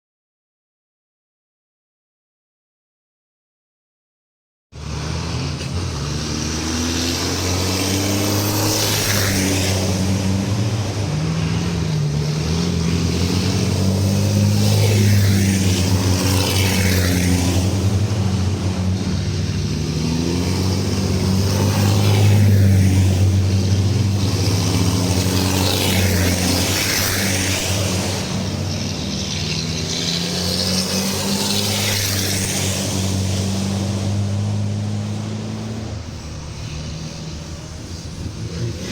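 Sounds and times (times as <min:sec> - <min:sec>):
diesel truck engines racing: 0:04.8 - 0:38.9
trucks passing by: 0:04.8 - 0:38.9.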